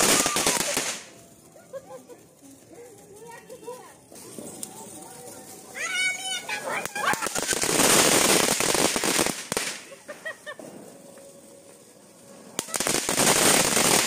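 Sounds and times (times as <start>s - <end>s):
firecrackers crackling and fizzing: 0.0s - 14.0s.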